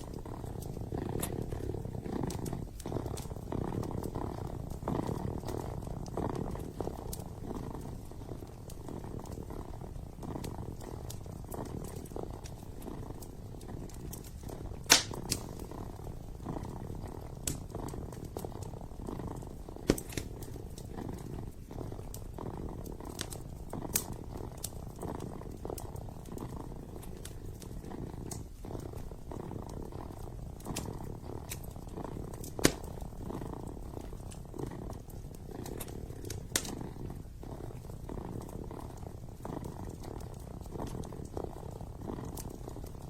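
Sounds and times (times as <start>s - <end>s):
kitten purring: 0.0s - 43.0s
wood fire crackling: 0.0s - 43.0s.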